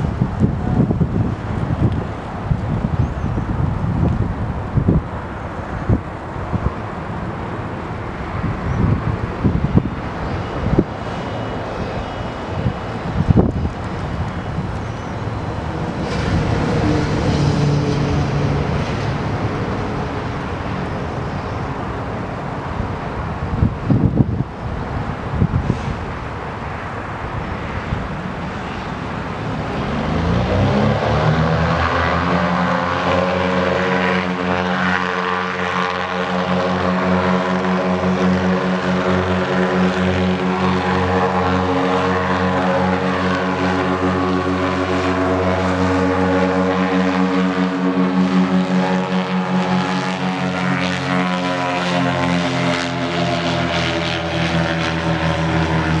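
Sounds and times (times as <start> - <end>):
airship propeller engines droning: 0.0 - 56.0.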